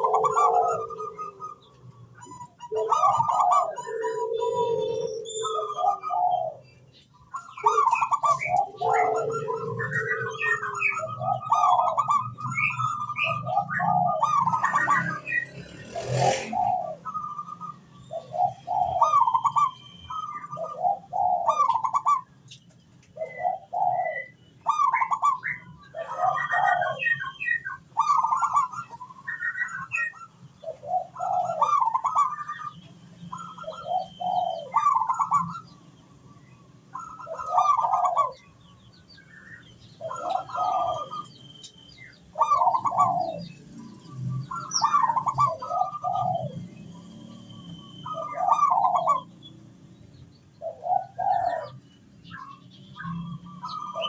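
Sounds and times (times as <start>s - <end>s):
dove stuttering coos: 0.0s - 6.7s, 7.3s - 22.3s, 23.2s - 35.8s, 36.9s - 38.6s, 39.9s - 41.3s, 42.3s - 49.5s, 50.6s - 51.8s
small birds chirping: 0.0s - 54.0s.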